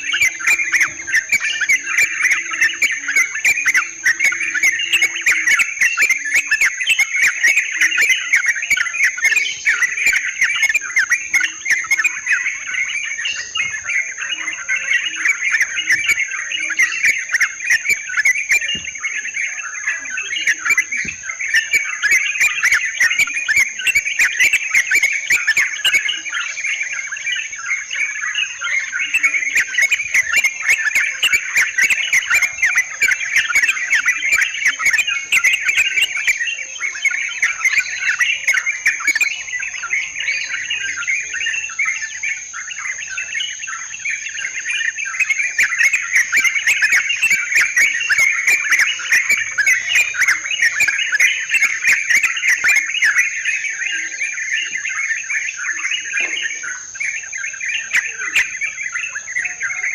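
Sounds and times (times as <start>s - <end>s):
bulbuls chattering: 0.0s - 59.9s.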